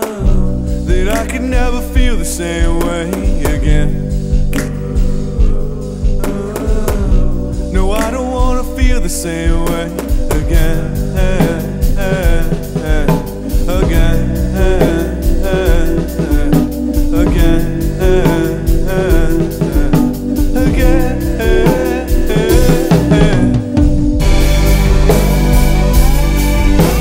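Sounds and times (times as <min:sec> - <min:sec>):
drum-kit beat: 0:00.0 - 0:27.0
person singing: 0:00.0 - 0:27.0.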